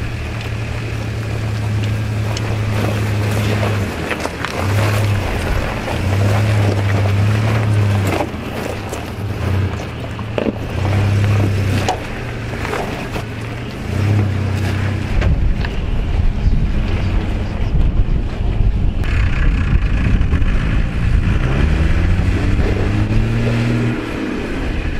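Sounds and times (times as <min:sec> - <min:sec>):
rock clicking under tyres: 0:00.0 - 0:23.0
engine working at low speed: 0:00.0 - 0:24.9
wind buffeting microphone: 0:00.0 - 0:24.9.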